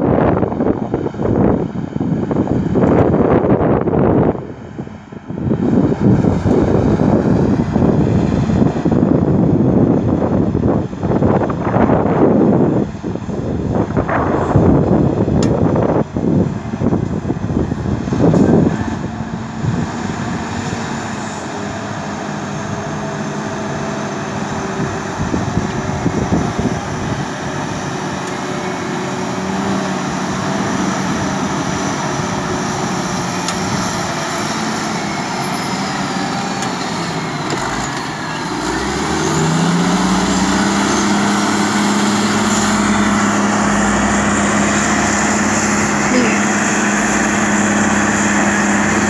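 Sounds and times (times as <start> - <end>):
diesel engines pulling steadily: 0.0 - 49.0.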